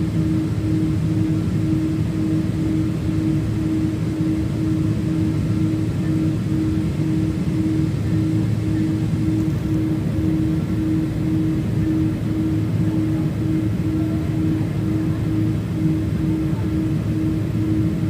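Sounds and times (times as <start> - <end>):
jet engines droning in cabin: 0.0 - 18.0
pulsing low hum: 0.0 - 18.0.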